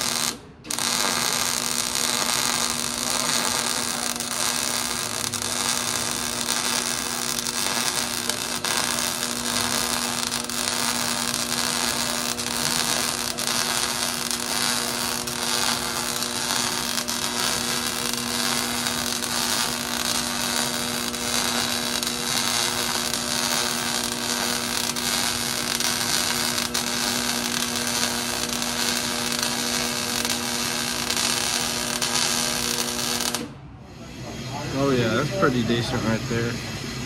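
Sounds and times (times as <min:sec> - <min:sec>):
welder electrical hum: 0:00.0 - 0:37.0
welding sizzling hiss: 0:00.0 - 0:37.0.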